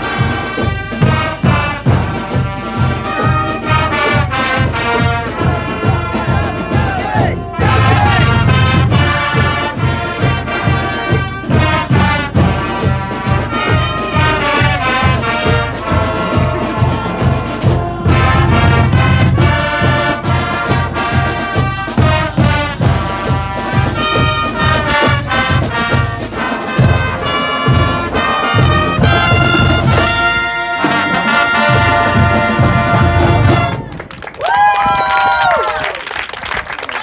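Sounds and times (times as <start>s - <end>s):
brass band playing upbeat tune: 0.0s - 34.2s.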